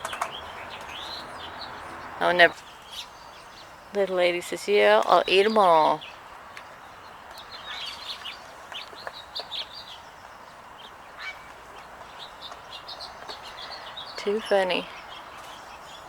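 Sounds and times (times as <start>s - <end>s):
faint outdoor background noise: 0.0s - 16.0s
small birds chirping: 0.0s - 16.0s.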